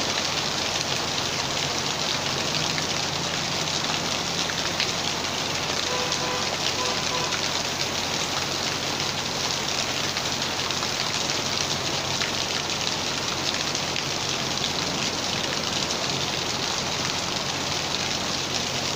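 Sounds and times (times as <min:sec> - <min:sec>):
heavy rain on hard surfaces: 0:00.0 - 0:18.9.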